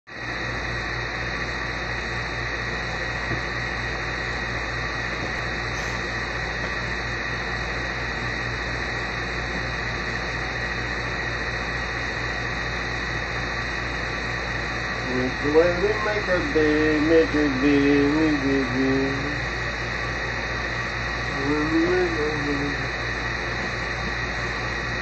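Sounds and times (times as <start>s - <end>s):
air conditioner humming: 0.1s - 25.0s.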